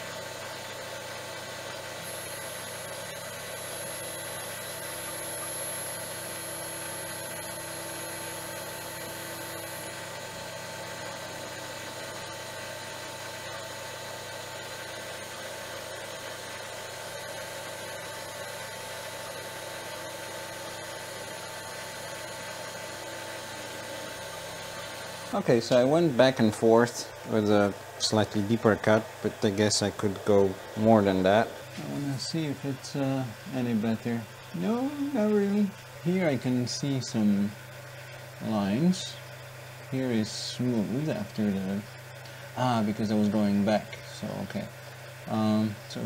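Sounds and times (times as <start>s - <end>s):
cnc spindle machine whine: 0.0s - 46.0s
thin high whine: 1.8s - 13.6s, 19.2s - 46.0s.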